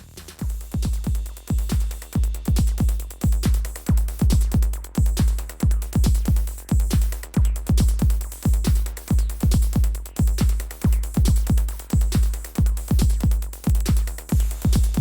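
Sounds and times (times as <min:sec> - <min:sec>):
electro dance music: 0:00.0 - 0:15.0
heavy kick drums: 0:00.0 - 0:15.0.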